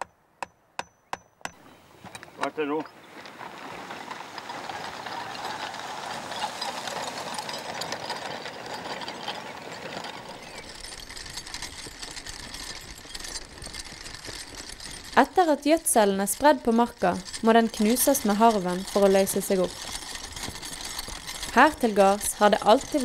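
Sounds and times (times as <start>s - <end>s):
chain harrow rattling and clinking: 2.0s - 23.0s.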